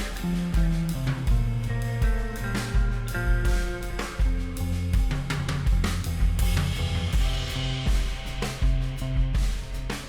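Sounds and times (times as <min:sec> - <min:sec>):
song with bass guitar and drums: 0:00.0 - 0:10.0.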